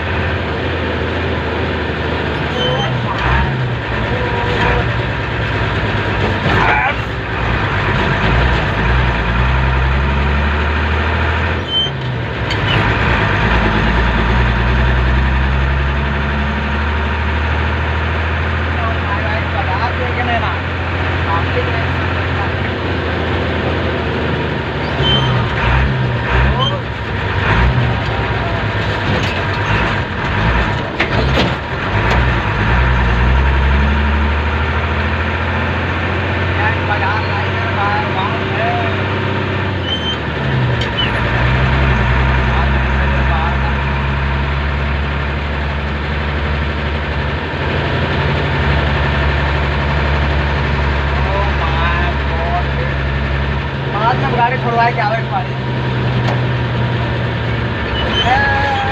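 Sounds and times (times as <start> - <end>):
road and wind noise: 0.0 - 58.9
vehicle engine humming: 0.0 - 58.9.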